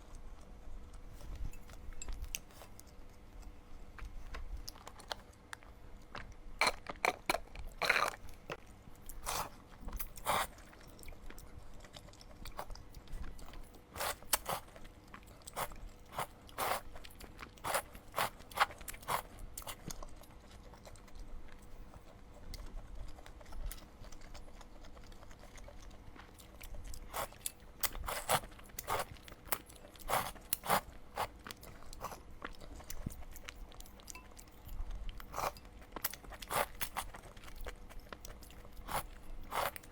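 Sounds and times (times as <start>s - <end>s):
crunchy bites and chewing: 2.2s - 39.9s.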